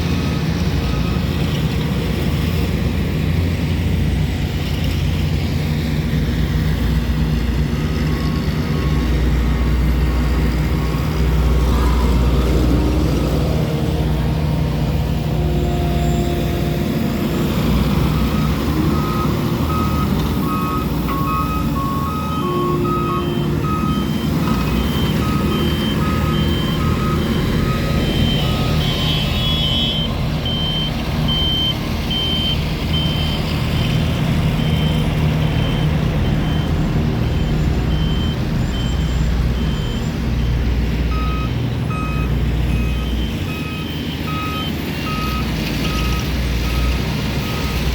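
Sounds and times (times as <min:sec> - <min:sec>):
reversing alarms beeping: 0:00.0 - 0:02.6, 0:07.1 - 0:11.6, 0:15.2 - 0:47.9
heavy vehicle engine rumble: 0:00.0 - 0:47.9.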